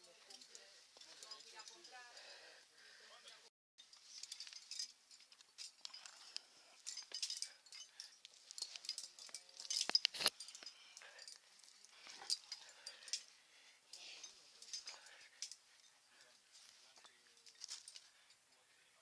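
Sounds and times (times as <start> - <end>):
climbing gear clinking: 0.0 - 2.2, 3.8 - 18.6.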